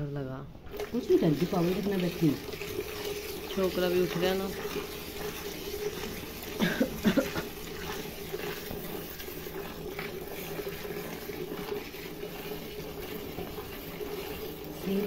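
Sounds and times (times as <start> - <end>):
milk squirting into steel bucket: 0.6 - 15.0.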